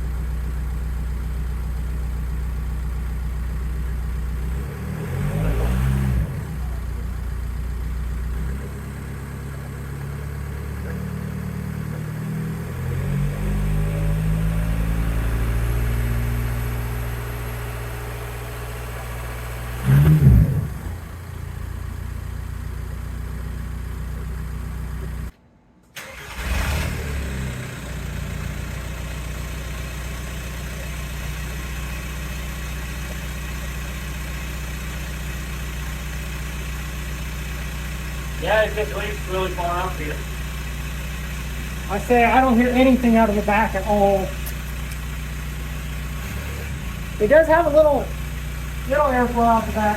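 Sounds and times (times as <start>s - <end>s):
diesel engine idling: 0.0s - 25.3s, 26.0s - 49.9s
engine revving: 3.9s - 22.6s, 26.0s - 49.9s.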